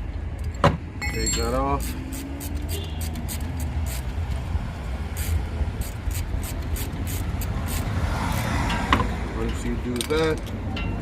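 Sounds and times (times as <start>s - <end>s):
wrench and bolt clicks and scrapes: 0.4s - 4.4s, 5.1s - 11.0s.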